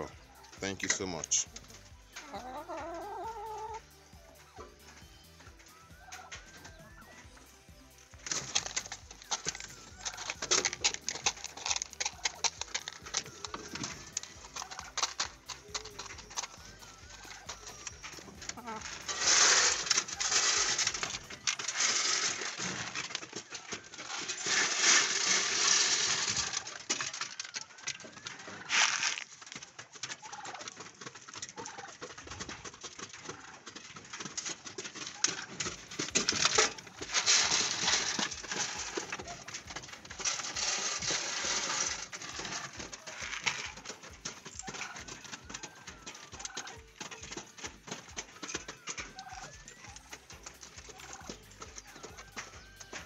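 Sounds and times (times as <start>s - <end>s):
dense clicking and rustling: 0.0s - 2.8s, 3.8s - 53.0s
hens clucking: 0.0s - 53.0s.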